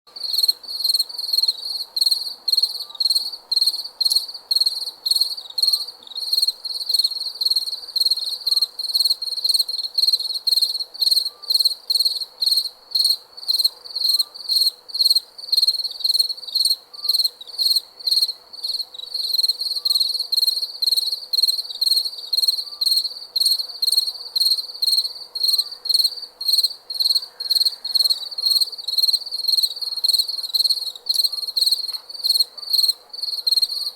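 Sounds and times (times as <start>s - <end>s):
crickets chirping: 0.2s - 33.9s.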